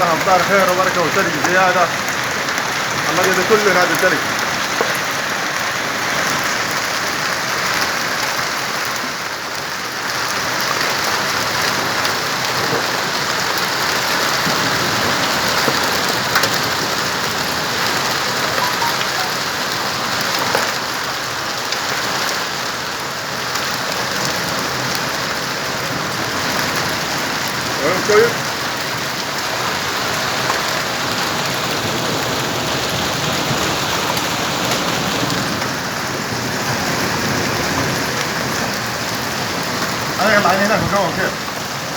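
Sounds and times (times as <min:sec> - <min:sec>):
heavy rain with hail: 0:00.0 - 0:41.9.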